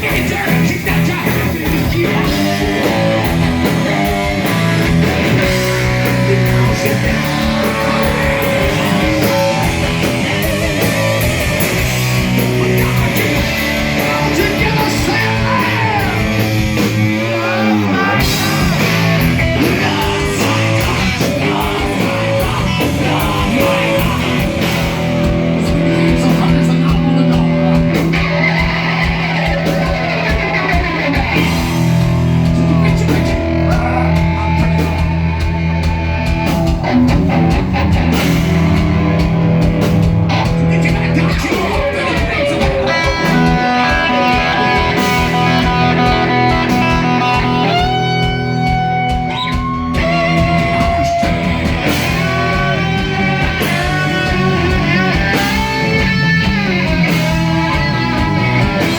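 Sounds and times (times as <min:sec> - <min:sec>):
person singing: 0:00.0 - 0:31.7, 0:32.4 - 0:35.6, 0:40.4 - 0:49.3, 0:49.9 - 0:58.9
distorted electric guitar: 0:00.0 - 0:58.9
drums: 0:00.0 - 0:58.9.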